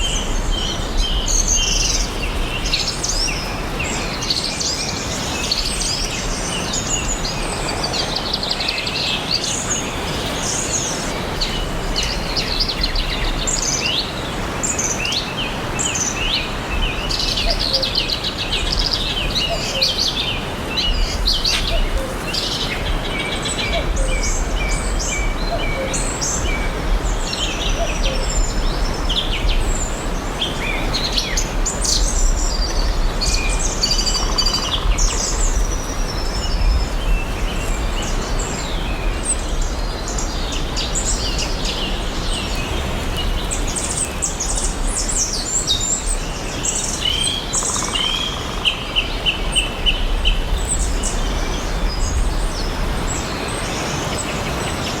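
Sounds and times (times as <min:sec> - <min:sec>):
forest birds chirping and singing: 0:00.0 - 0:55.0.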